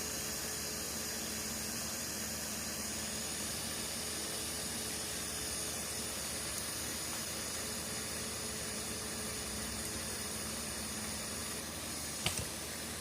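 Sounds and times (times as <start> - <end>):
butane torch flame hissing: 0.0 - 13.0.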